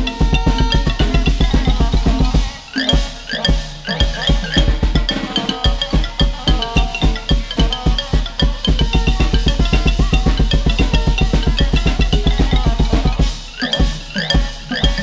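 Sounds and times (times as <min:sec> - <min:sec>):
xylophone and drums ensemble: 0:00.0 - 0:15.0.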